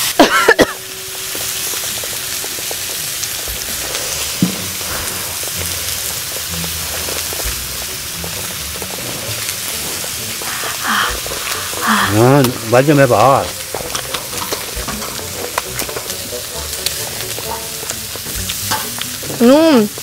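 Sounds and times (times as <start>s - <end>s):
meat sizzling on a griddle: 0.0s - 20.0s.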